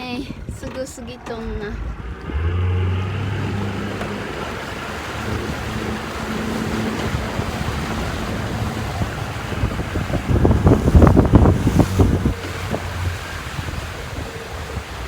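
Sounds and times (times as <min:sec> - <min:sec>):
boat engine running: 0:00.0 - 0:15.0
wind and water rushing: 0:00.0 - 0:15.0.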